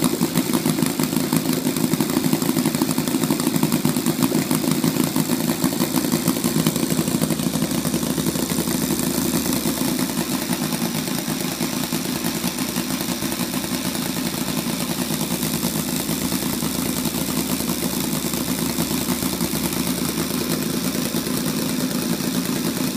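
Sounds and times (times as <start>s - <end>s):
model aircraft engine running: 0.0s - 22.9s.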